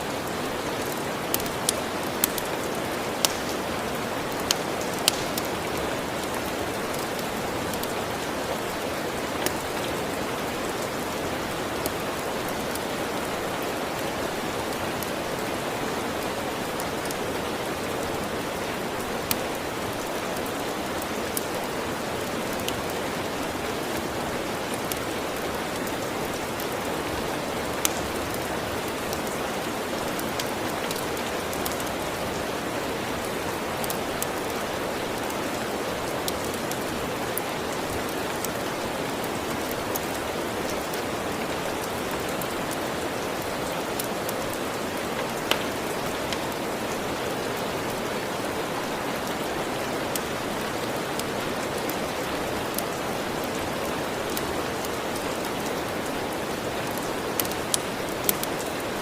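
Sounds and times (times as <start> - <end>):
steady rain falling: 0.0 - 59.0
wood fire crackles: 0.0 - 59.0.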